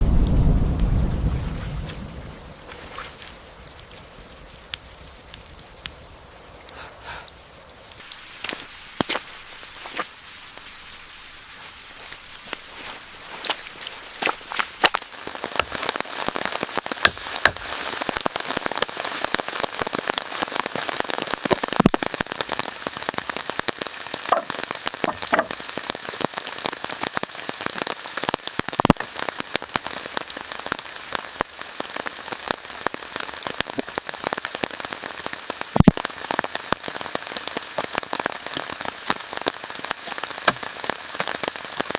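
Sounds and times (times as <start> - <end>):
close raindrops striking: 0.0 - 41.9
rain falling: 0.0 - 41.9.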